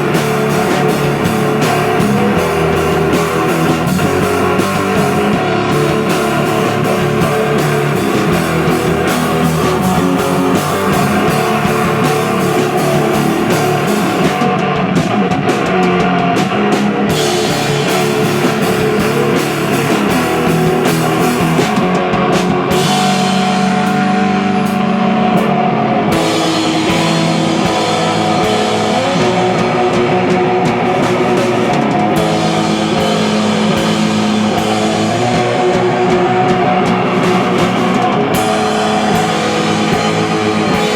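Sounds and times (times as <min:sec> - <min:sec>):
distorted electric guitars: 0:00.0 - 0:40.9
drum kit: 0:00.0 - 0:40.9.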